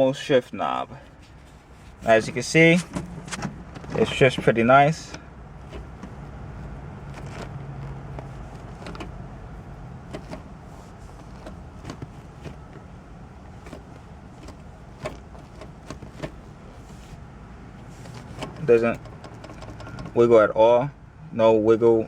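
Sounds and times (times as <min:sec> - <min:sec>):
low steady hum: 0:00.0 - 0:22.0
gear shifter clicks and clunks: 0:00.8 - 0:20.8.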